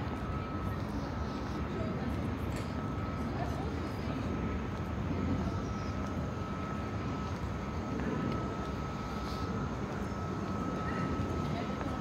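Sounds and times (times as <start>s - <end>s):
low city rumble: 0.0s - 12.0s
thin steady whine: 0.0s - 12.0s.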